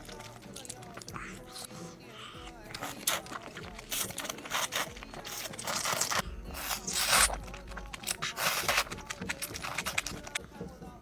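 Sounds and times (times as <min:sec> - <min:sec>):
scraping noises: 0:00.0 - 0:10.5
crunching and chewing: 0:00.0 - 0:11.0.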